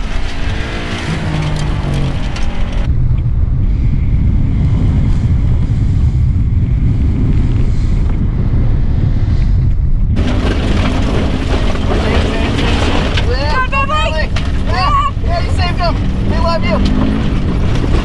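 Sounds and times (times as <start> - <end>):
car engine rumble: 0.0 - 18.0
wind buffeting microphone: 0.0 - 18.0.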